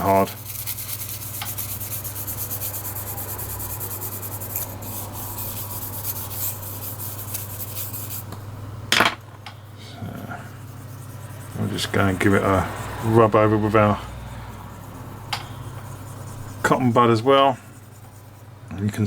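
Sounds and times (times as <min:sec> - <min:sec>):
toothbrush scrubbing circuit board: 0:00.0 - 0:08.3, 0:10.0 - 0:18.5.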